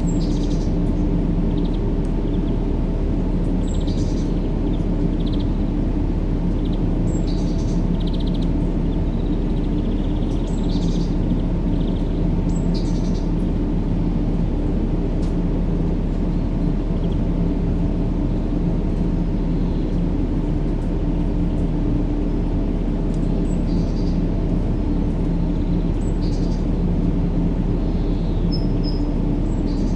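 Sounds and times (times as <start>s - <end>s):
low rumbling white noise: 0.0s - 29.9s.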